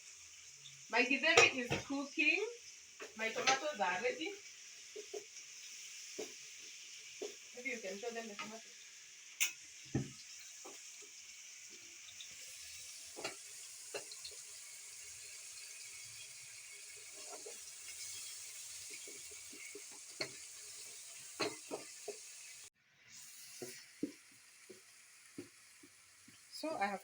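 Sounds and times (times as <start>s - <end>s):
food sizzling in a pot: 0.0s - 27.0s.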